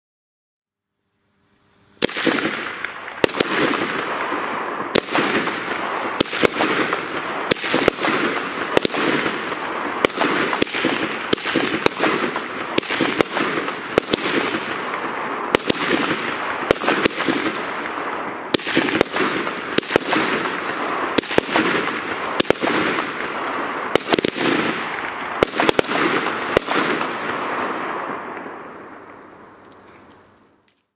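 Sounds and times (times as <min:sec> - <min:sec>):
firework hiss: 0:01.4 - 0:30.6
firework launch thumps and bursts: 0:02.0 - 0:28.5.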